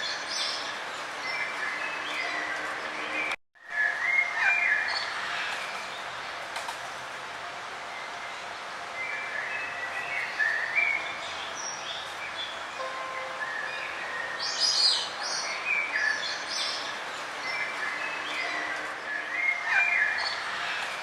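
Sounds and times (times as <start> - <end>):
songbirds chirping and whistling: 0.0 - 6.2, 8.0 - 21.0.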